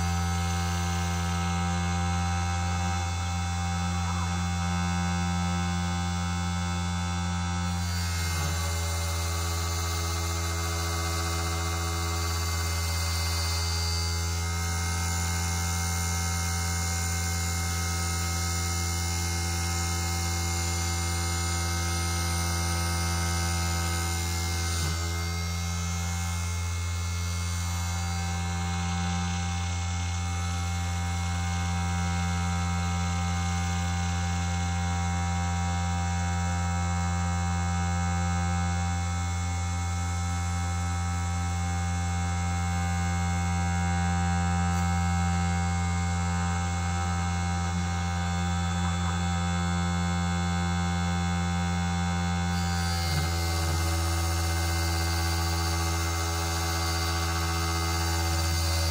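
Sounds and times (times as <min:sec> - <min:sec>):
electric motor hum: 0:00.0 - 0:58.9.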